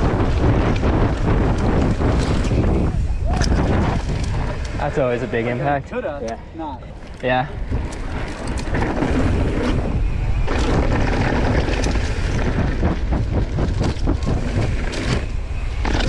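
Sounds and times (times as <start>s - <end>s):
bike chain and frame rattling: 0.0s - 5.6s, 7.0s - 16.0s
tyres rolling over dirt: 0.0s - 5.8s, 6.9s - 16.0s
wind buffeting microphone: 0.0s - 16.0s.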